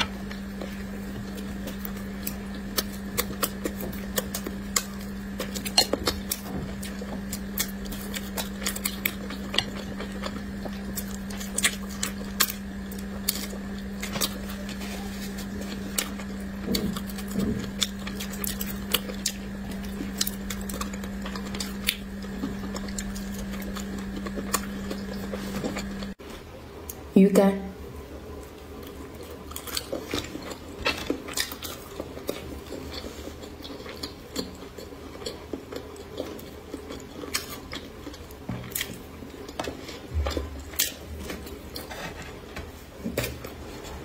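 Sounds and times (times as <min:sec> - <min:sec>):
person chewing food: 0:00.0 - 0:26.2, 0:28.4 - 0:44.0
steady low hum: 0:00.0 - 0:44.0.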